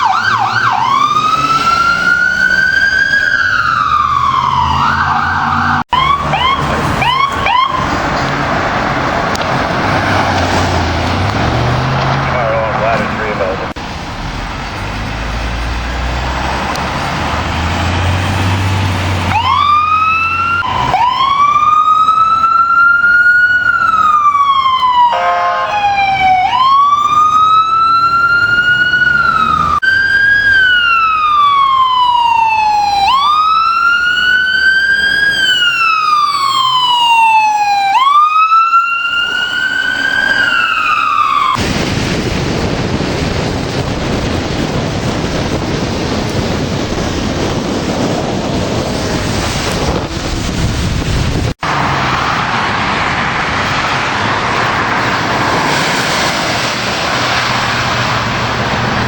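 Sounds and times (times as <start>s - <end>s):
emergency vehicle siren wailing: 0.0s - 59.0s
traffic and engine noise: 0.0s - 59.0s.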